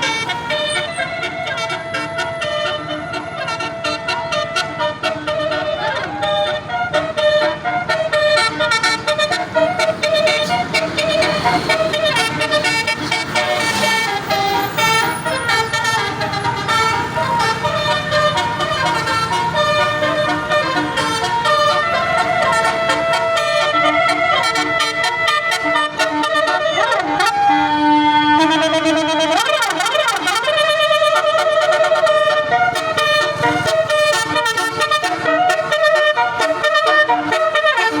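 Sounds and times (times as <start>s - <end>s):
multi-tone horn melody: 0.0s - 38.0s.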